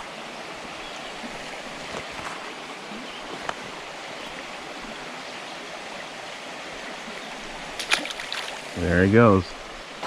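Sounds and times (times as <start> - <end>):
stream water splashing over rocks: 0.0 - 10.0.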